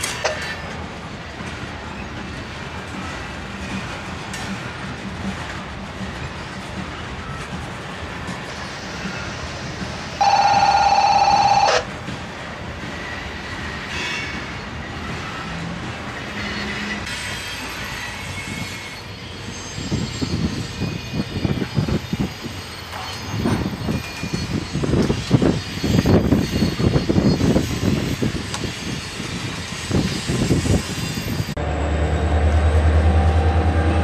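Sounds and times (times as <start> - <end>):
freight train cars rolling on rails: 0.0 - 34.0.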